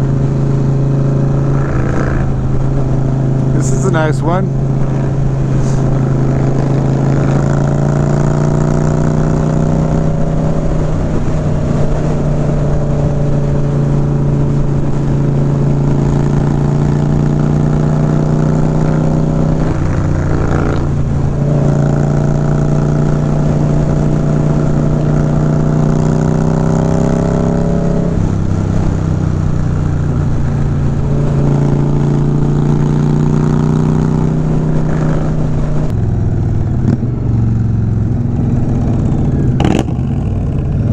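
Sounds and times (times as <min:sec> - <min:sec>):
motorcycle engine cruising: 0:00.0 - 0:40.9
wind noise: 0:00.0 - 0:40.9.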